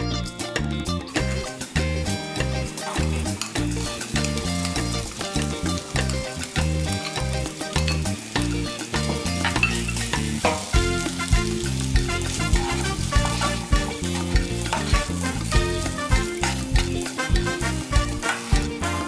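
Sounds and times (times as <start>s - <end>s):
background music: 0.0s - 19.0s
rice sizzling in a frying pan: 1.1s - 19.0s
utensils scraping and tapping pan: 2.7s - 19.0s.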